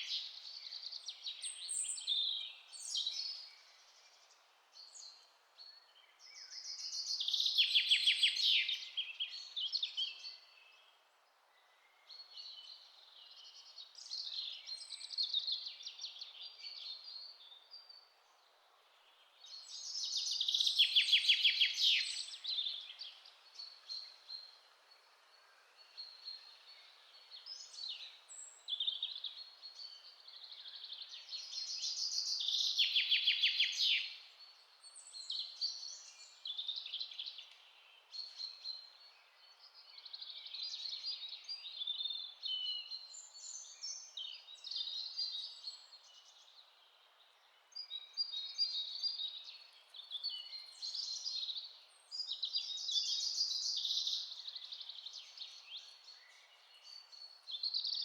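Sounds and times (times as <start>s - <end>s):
bird song with rapid trill: 0.0s - 11.0s, 11.6s - 58.0s.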